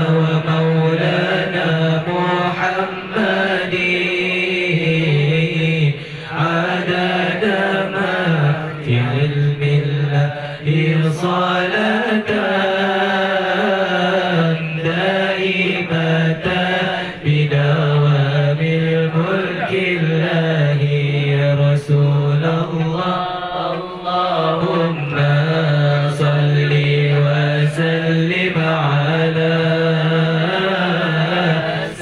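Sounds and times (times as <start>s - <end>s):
voices chanting slow melody: 0.0s - 32.0s.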